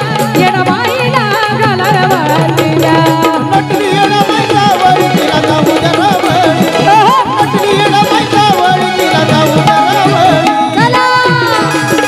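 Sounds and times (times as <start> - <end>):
hand drums beating: 0.0 - 12.0.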